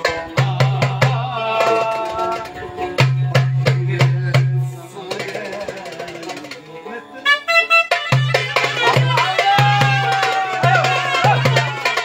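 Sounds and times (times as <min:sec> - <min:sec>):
drum strokes with deep thuds: 0:00.0 - 0:06.7, 0:07.9 - 0:12.0.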